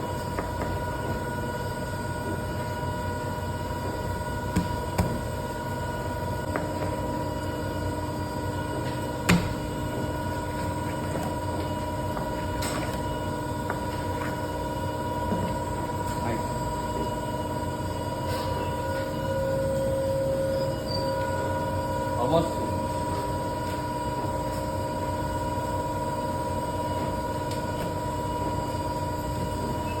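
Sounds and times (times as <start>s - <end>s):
machine rumble and whine: 0.0s - 30.0s
mechanical hum: 0.0s - 30.0s.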